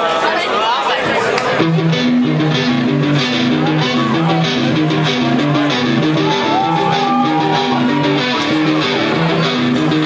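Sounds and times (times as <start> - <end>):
strummed guitar chords: 1.6 - 10.0.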